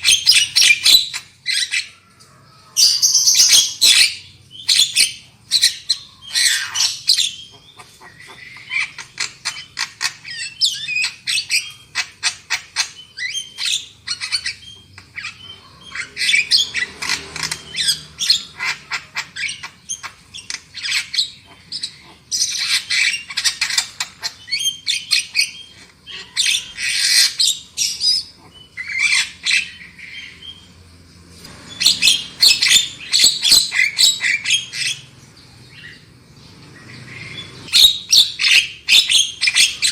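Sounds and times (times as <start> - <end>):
bird chattering and squawking: 0.0 - 2.1, 2.7 - 30.8, 31.4 - 39.9.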